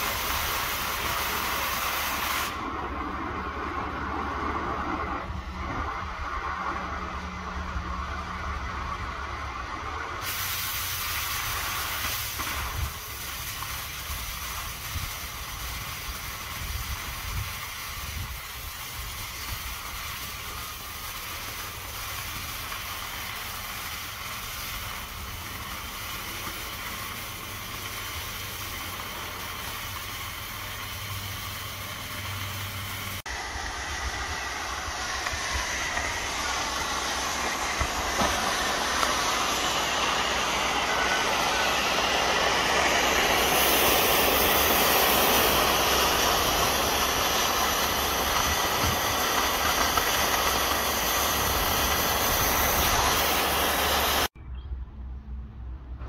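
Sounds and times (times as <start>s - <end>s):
cutting torch hissing: 0.0s - 54.4s.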